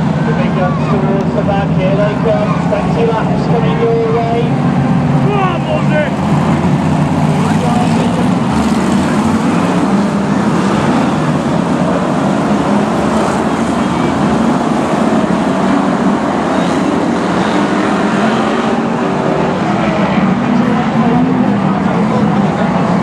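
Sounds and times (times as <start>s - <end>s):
racing car engines roaring: 0.0s - 23.0s.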